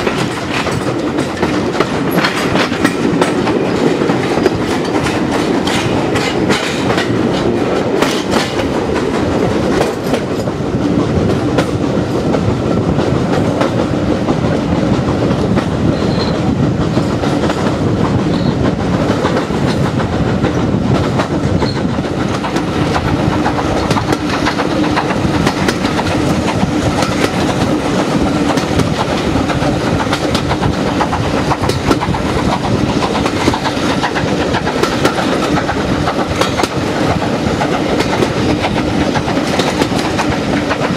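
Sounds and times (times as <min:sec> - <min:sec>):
train rumbling: 0:00.0 - 0:40.9
wheels clicking over rail joints: 0:00.0 - 0:40.9.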